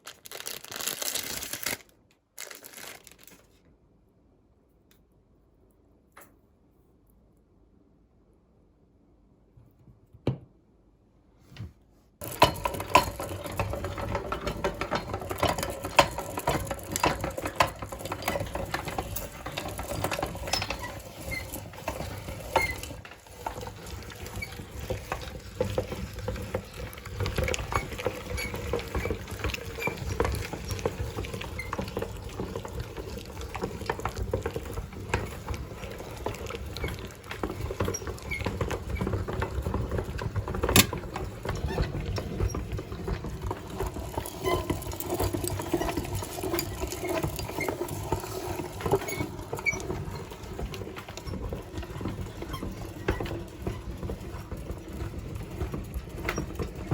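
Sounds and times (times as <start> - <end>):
meat grinder crackling and squishing: 0.0 - 3.6, 12.2 - 56.9.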